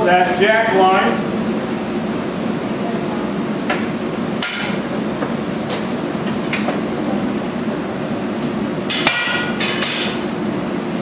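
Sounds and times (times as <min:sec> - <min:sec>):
furnace roar: 0:00.0 - 0:11.0.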